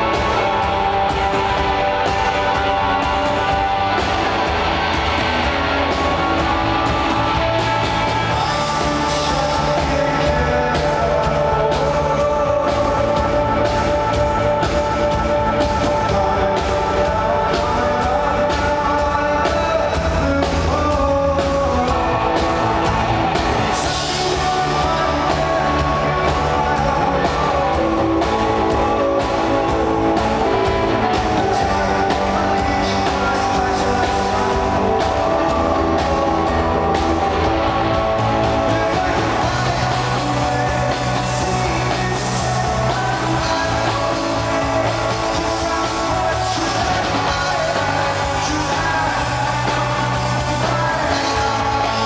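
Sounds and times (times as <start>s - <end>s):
lead vocal singing: 0.0s - 52.0s
live rock band: 0.0s - 52.0s.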